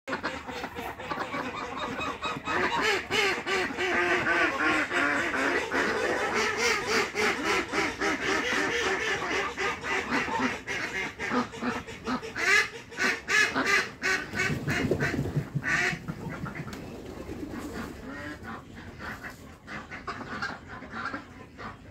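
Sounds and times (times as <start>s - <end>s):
ducks quacking: 0.1s - 21.9s.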